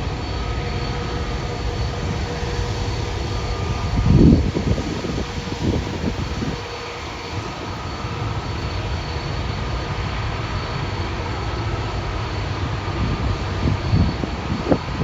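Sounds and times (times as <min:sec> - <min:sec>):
faint high whine: 0:00.0 - 0:15.0
jet engines rushing: 0:00.0 - 0:15.0.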